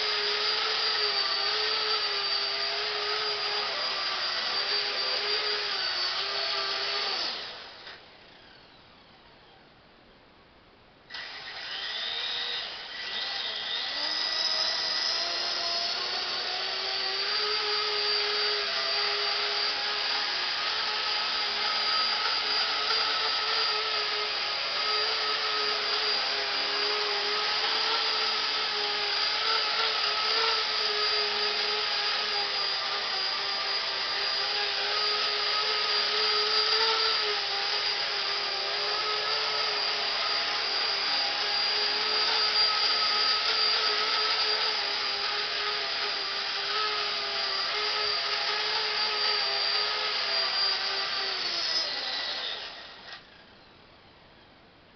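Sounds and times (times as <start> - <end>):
toy helicopter motor whine: 0.0 - 9.6, 11.1 - 53.5.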